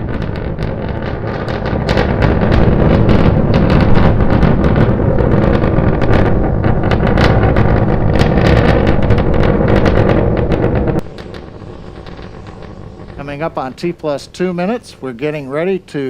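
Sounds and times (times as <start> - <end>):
rocket engines rumbling and crackling: 0.0 - 16.0.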